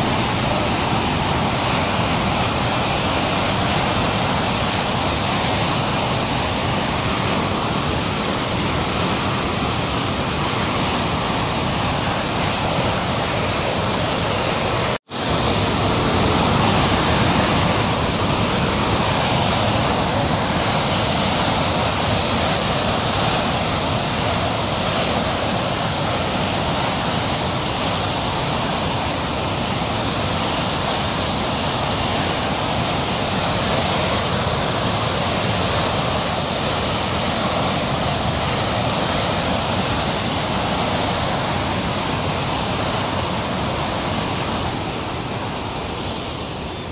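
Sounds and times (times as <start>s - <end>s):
floodwater rushing through spillway: 0.0s - 46.9s.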